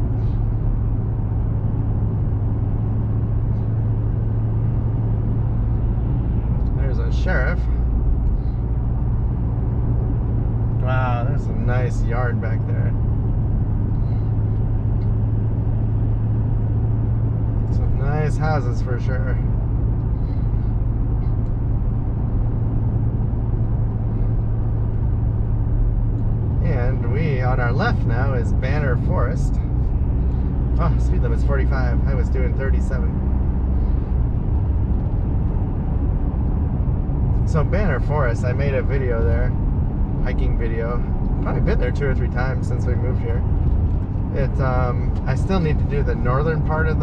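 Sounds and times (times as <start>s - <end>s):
truck engine drone: 0.0s - 47.0s
tyre road noise: 0.0s - 47.0s.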